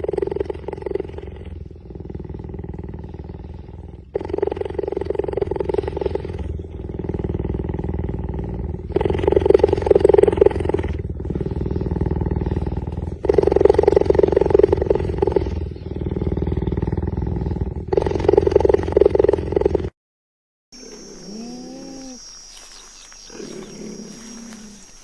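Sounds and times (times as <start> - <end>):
wild cat vocalising: 0.0 - 19.9, 20.8 - 22.4, 23.3 - 25.0.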